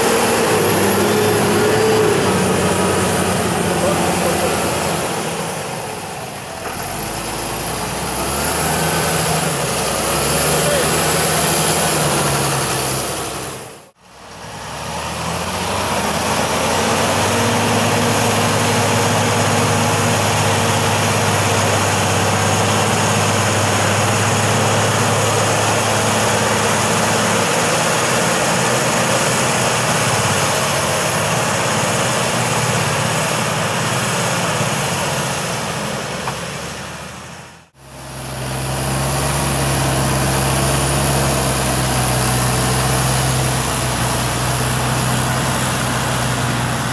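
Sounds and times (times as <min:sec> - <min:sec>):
tractor diesel engines under load: 0:00.0 - 0:46.9.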